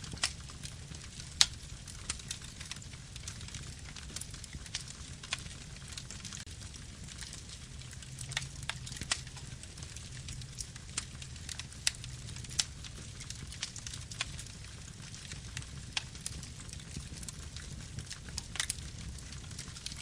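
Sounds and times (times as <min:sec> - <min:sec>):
campfire crackling and popping: 0:00.0 - 0:20.0
low fire rumble: 0:00.0 - 0:20.0.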